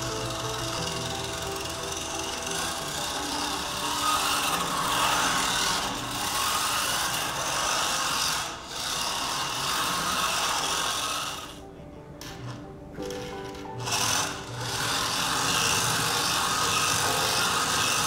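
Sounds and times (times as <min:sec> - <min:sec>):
electric motor and gears whining: 0:00.0 - 0:18.0.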